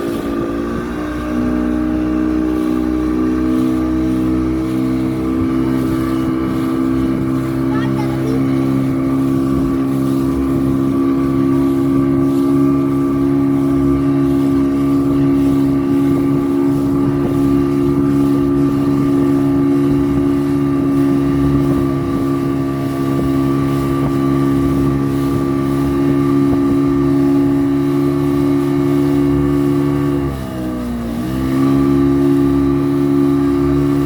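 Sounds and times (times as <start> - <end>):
motorboat engine droning: 0.0 - 34.0.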